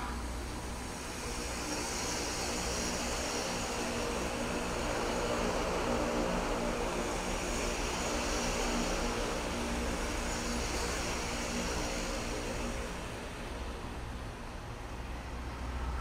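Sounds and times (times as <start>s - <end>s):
rushing hiss: 0.0s - 15.9s
locomotive engine drone: 0.0s - 16.0s.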